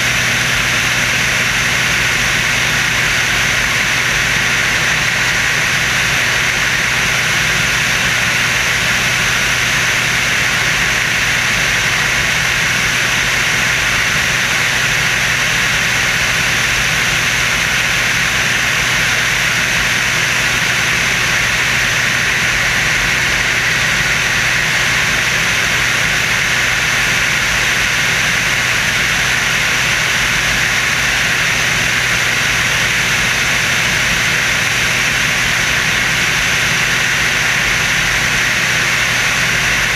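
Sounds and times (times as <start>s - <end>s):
biplane engine drone: 0.0s - 39.9s.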